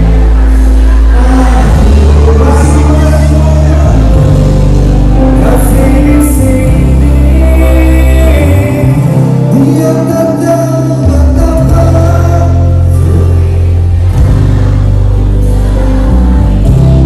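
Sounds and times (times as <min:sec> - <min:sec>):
heavy bass line: 0:00.0 - 0:17.0
live band music with singing: 0:00.0 - 0:17.0.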